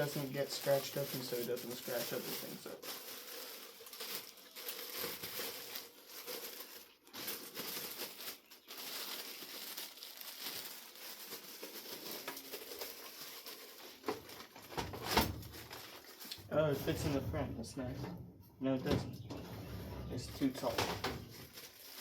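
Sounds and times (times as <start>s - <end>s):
bag crinkling and rustling: 0.0s - 17.5s, 20.1s - 22.0s.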